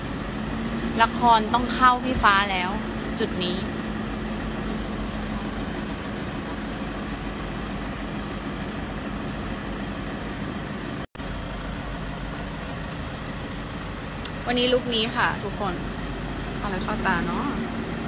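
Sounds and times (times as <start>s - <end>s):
low mechanical rumble with hiss: 0.0s - 18.0s.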